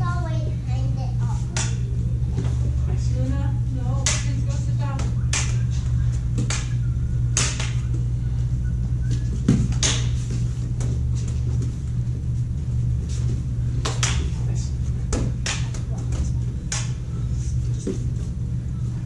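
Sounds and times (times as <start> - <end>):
low electronic hum: 0.0 - 19.0.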